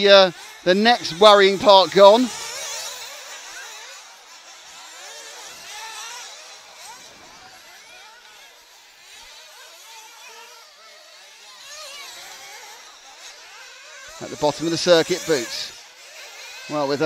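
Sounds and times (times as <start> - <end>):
small nitro engines whining: 0.0 - 17.0.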